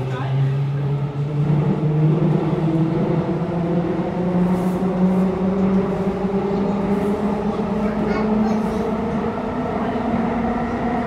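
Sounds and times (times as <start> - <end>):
train rumbling in tunnel: 0.0 - 11.0.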